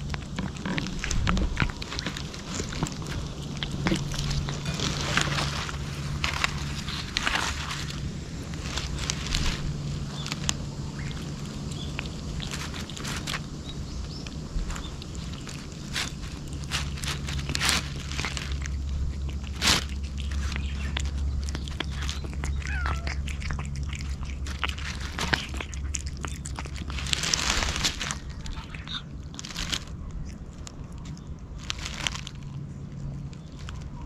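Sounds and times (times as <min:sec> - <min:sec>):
cat licking and chewing: 0:00.0 - 0:34.0
low steady hum: 0:00.0 - 0:34.0.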